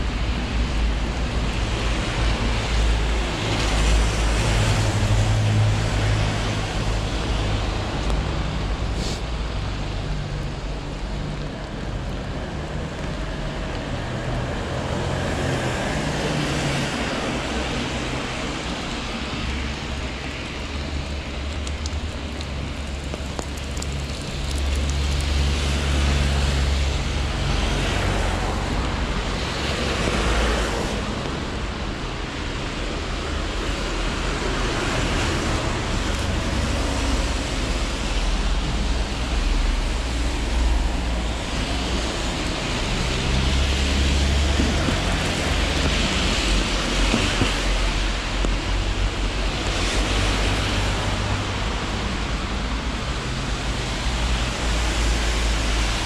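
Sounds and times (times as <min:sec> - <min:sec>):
distant traffic: 0:00.0 - 0:56.0
hiss of wet roads: 0:00.0 - 0:56.0
wind rumble on microphone: 0:00.0 - 0:56.0.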